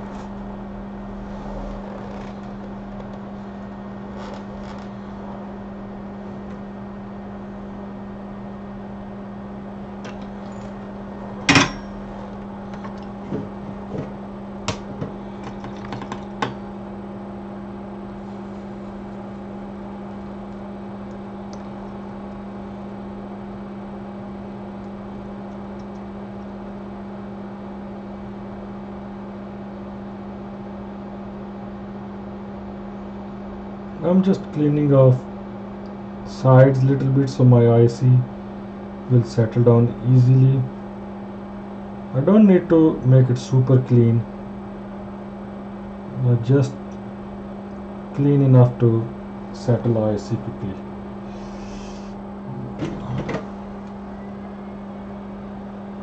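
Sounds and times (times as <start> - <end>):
equipment low hum: 0.0 - 56.0.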